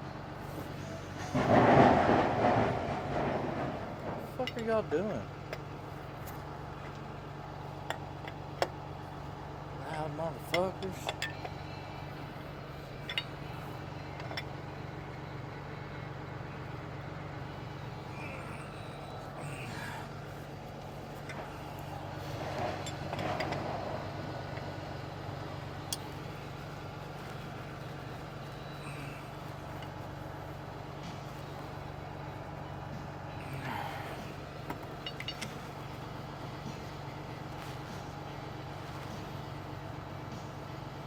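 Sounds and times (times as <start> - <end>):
engine idling with low hum: 0.0 - 41.0.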